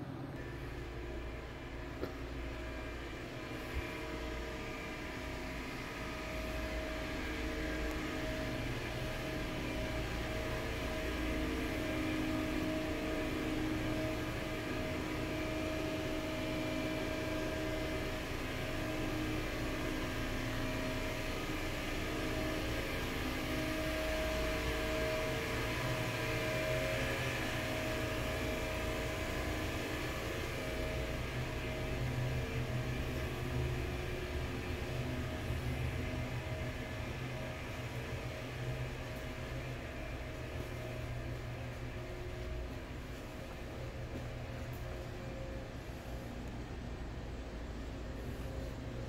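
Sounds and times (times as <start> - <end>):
kitchen equipment humming: 0.0 - 49.0.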